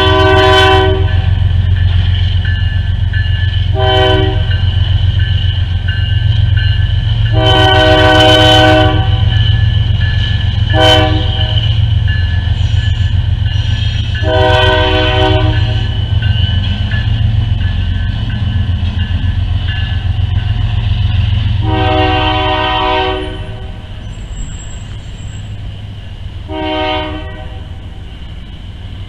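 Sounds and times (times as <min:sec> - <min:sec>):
steam locomotive chime whistle: 0:00.0 - 0:25.6, 0:26.5 - 0:27.9.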